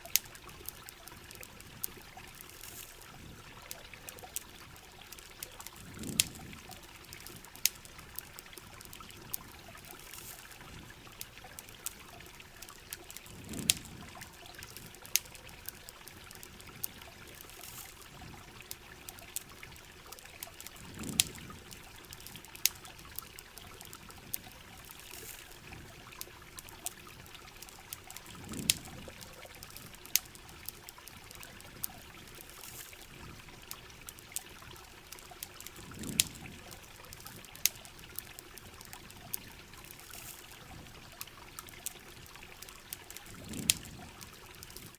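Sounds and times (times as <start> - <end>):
campfire crackling and popping: 0.0 - 44.9
steady rain: 0.0 - 44.9
trickling water: 0.0 - 44.9.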